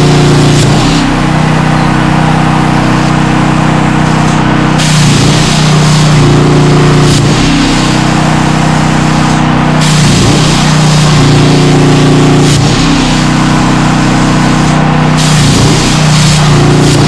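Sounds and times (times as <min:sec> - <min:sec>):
plasma arc hissing: 0:00.0 - 0:17.0.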